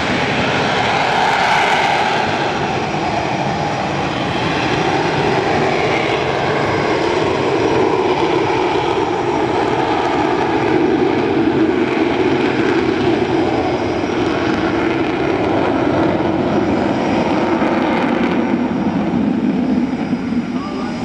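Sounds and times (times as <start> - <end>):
jet engine running loud: 0.0 - 21.0.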